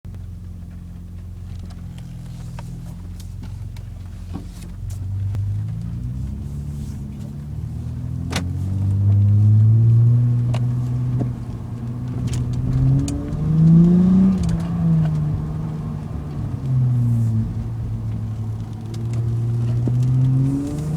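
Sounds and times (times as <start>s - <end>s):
car engine accelerating: 0.1s - 20.9s.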